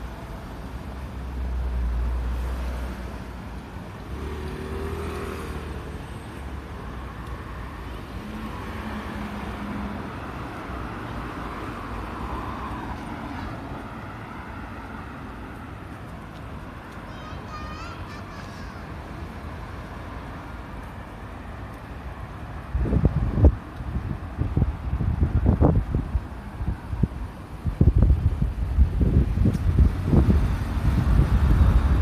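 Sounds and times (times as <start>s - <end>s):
cars passing: 0.0s - 32.0s.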